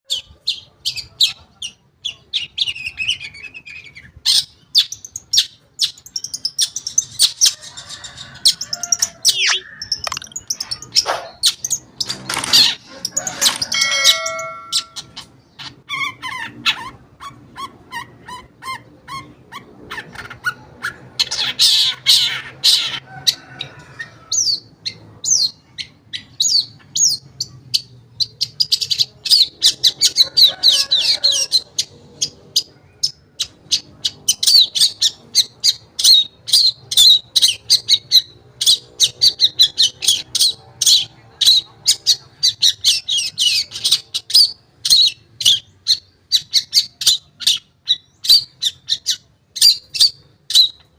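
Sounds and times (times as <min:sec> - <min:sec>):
bird singing chirps and trills: 0:00.1 - 0:23.0, 0:24.1 - 0:50.9.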